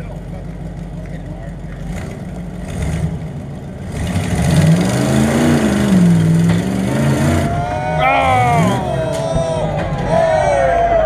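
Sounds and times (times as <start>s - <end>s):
race car engine revving: 0.4s - 10.6s.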